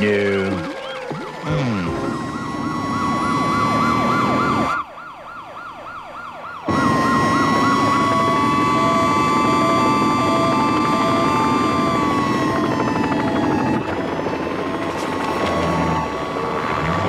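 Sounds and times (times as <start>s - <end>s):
cartoon police sirens: 0.0s - 17.0s
vehicle noise: 0.0s - 17.0s.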